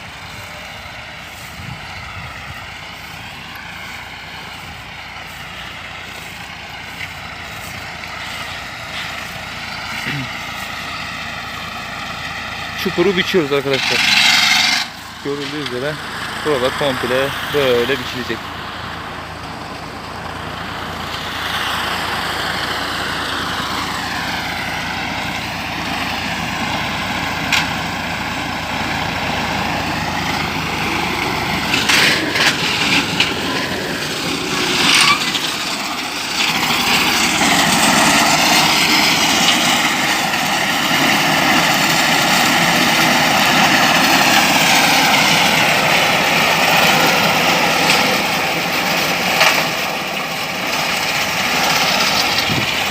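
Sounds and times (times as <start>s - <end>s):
mowing machine engine running: 0.0s - 52.9s.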